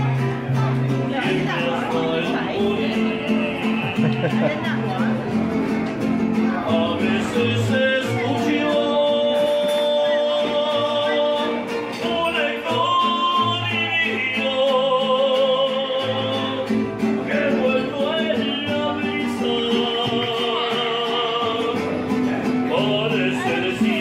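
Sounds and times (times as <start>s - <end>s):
strummed guitar: 0.0s - 24.0s.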